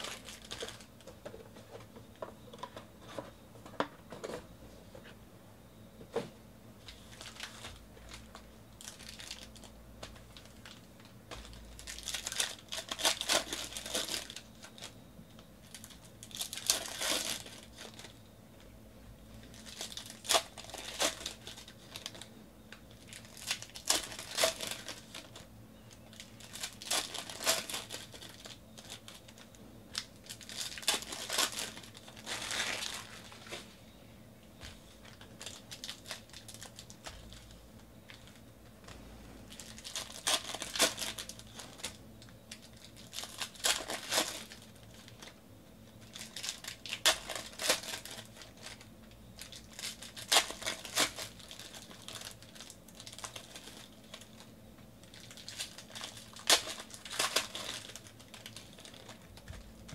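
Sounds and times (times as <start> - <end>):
foil wrappers tearing and crinkling: 0.0 - 0.9, 6.9 - 15.0, 15.6 - 18.2, 19.4 - 33.7, 35.0 - 38.4, 39.5 - 59.9.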